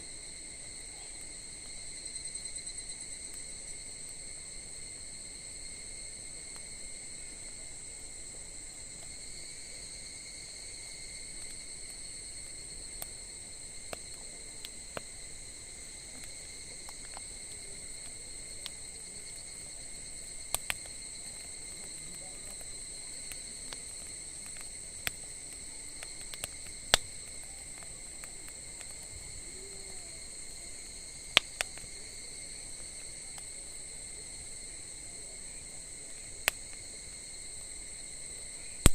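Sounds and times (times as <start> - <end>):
insects trilling: 0.0 - 38.9
wood fire crackling and popping: 0.1 - 38.9.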